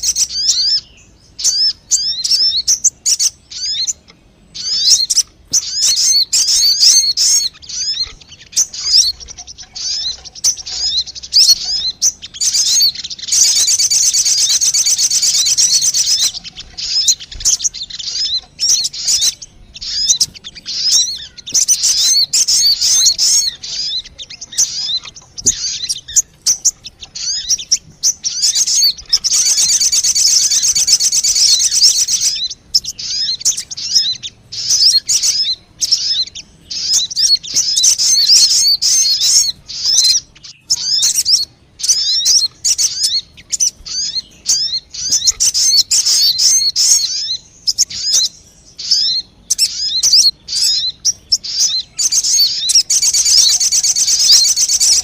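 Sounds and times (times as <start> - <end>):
bird call chirping and trilling: 0.0 - 55.0.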